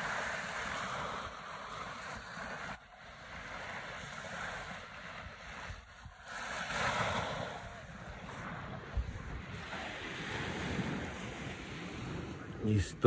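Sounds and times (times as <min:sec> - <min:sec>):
sea waves washing: 0:00.0 - 0:13.0
wind on microphone: 0:00.0 - 0:13.0.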